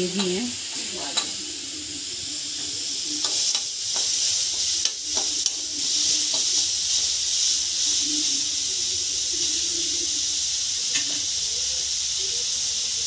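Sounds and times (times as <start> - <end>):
peas sizzling in oil: 0.0 - 13.0.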